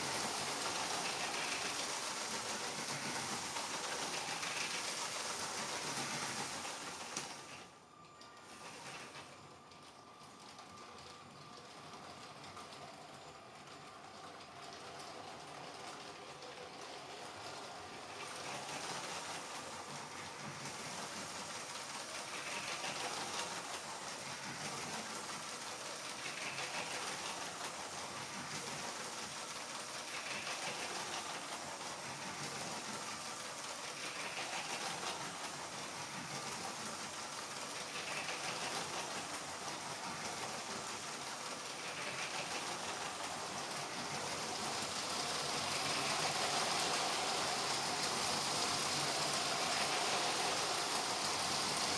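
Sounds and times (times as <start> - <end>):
toy trains whirring and rattling: 0.0 - 51.9.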